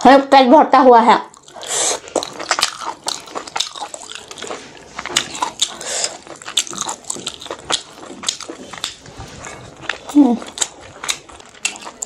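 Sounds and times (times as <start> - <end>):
close-miked chewing: 1.2 - 12.0.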